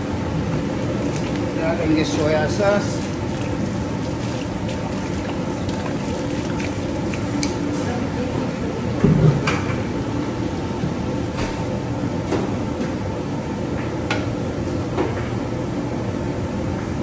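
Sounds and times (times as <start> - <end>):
kitchen hum: 0.0 - 15.4.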